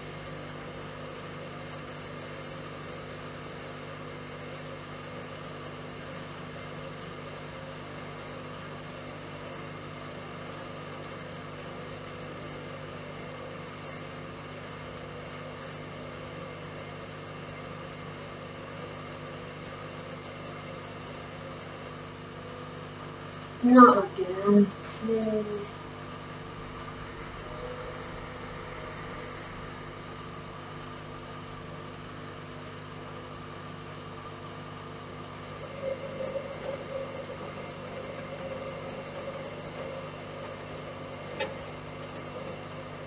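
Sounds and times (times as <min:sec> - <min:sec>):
washing machine humming: 0:00.0 - 0:43.0.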